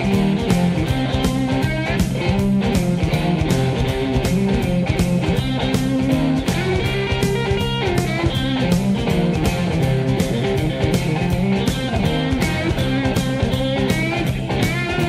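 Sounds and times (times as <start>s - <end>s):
rock music with electric guitar: 0.0s - 15.0s
steady drum beat: 0.0s - 15.0s.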